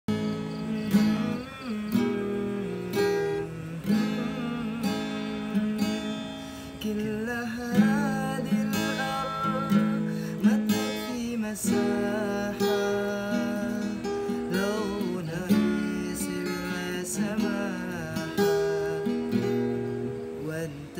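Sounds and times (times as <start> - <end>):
acoustic guitar strumming: 0.1 - 20.9
man singing: 0.1 - 20.9.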